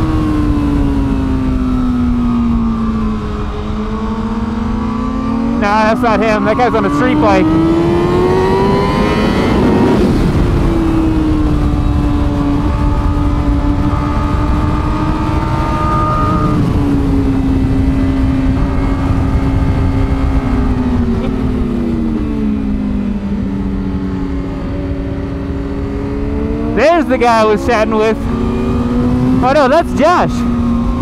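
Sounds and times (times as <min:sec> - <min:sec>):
heavy wind rush: 0:00.0 - 0:31.0
motorcycle engine at high revs: 0:00.0 - 0:31.0.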